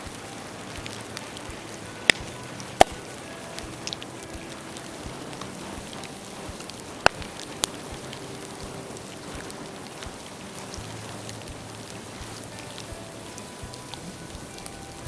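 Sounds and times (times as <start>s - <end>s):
bamboo bonfire crackling: 0.0s - 15.0s
loud sharp pops: 0.0s - 15.0s.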